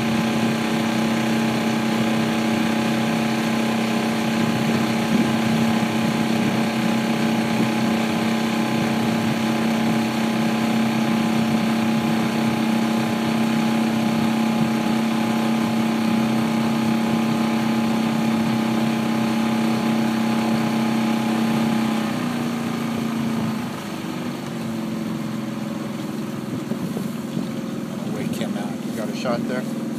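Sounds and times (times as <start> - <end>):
motorboat engine humming: 0.0 - 29.9.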